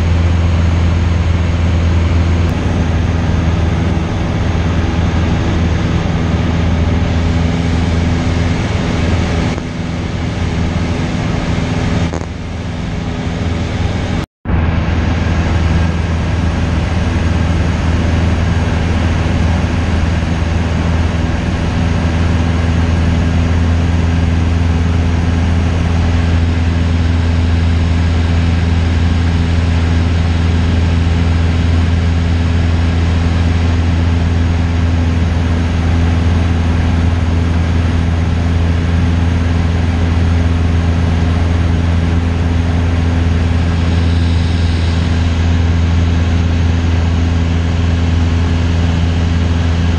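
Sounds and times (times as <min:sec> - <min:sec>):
propeller engine droning: 0:00.0 - 0:49.9.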